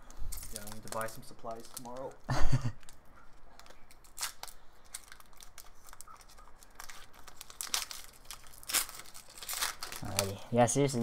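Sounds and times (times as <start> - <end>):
foil wrapper tearing and crinkling: 0.3 - 10.4.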